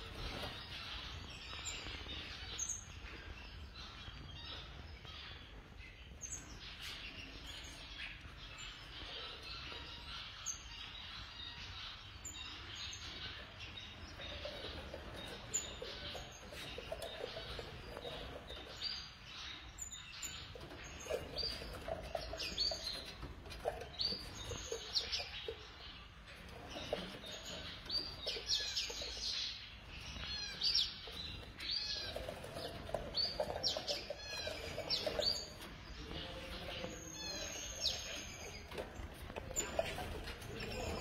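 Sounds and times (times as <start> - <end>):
caged birds chirping: 0.0 - 41.0.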